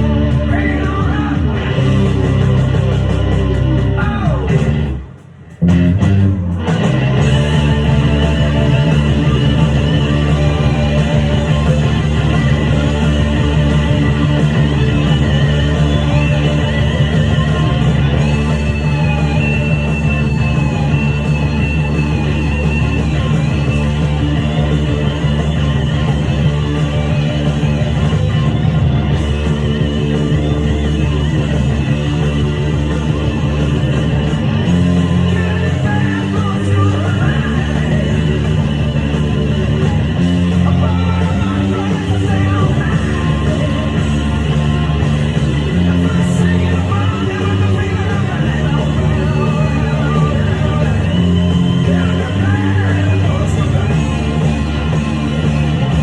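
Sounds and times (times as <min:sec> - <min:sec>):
hard rock song: 0:00.0 - 0:56.0.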